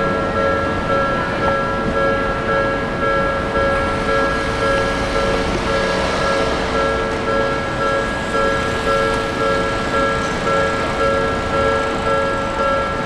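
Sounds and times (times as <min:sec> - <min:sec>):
level-crossing bell ringing: 0:00.0 - 0:13.0
rail and traffic rumble: 0:00.0 - 0:13.0.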